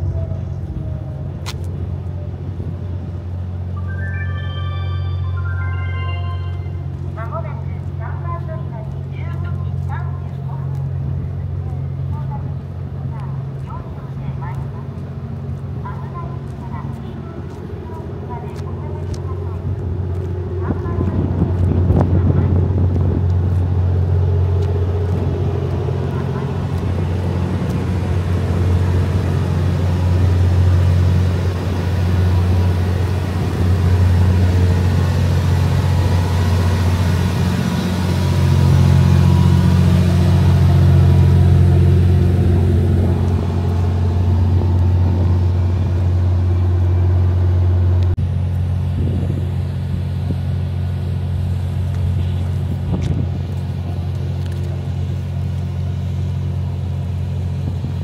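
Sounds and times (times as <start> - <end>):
train engine idling: 0.0 - 58.0.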